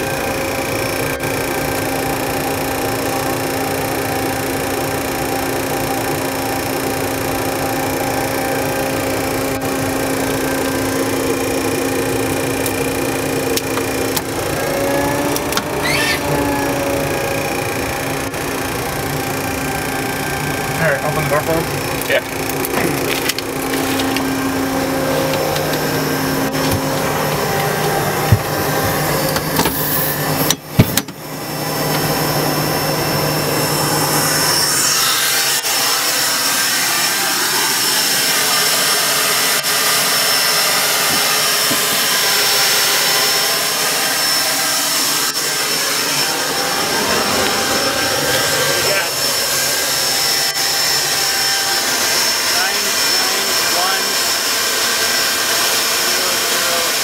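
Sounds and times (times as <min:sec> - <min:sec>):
high turbine whine: 0:00.0 - 0:57.0
jet turbine running: 0:00.0 - 0:57.0.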